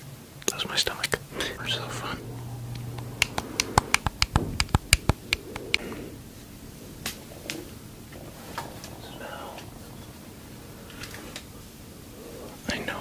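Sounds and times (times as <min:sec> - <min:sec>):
stomach growling and gurgling: 0:01.2 - 0:12.7.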